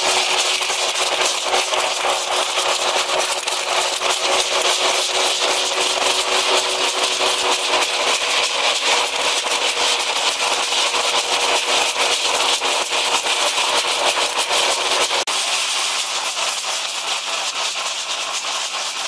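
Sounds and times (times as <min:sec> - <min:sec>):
machine hum: 0:00.0 - 0:17.8
nuts rattling through a thresher: 0:00.0 - 0:19.0.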